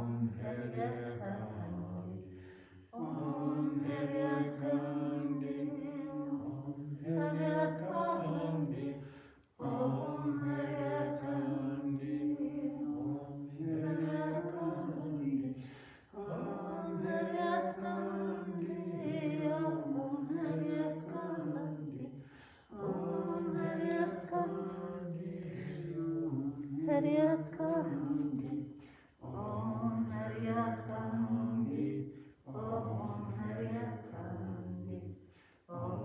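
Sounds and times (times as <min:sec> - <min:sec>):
voices singing devotional chant: 0:00.0 - 0:36.0.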